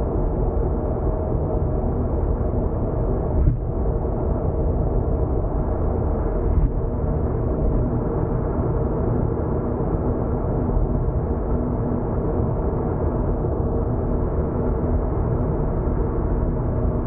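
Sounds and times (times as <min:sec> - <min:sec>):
car road noise inside cabin: 0:00.1 - 0:17.0.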